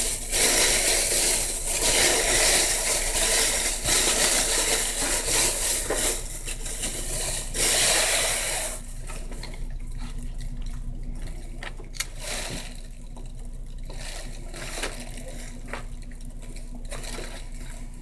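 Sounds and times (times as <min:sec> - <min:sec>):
rustling and handling noise: 0:00.0 - 0:18.0.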